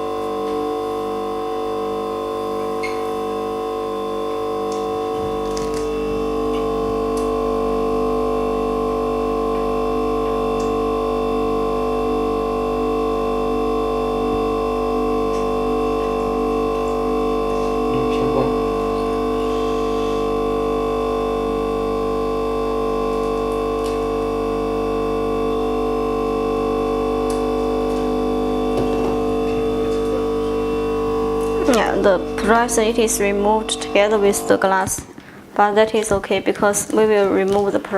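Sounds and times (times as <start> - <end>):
pulsing electrical hum: 0.0 - 37.9.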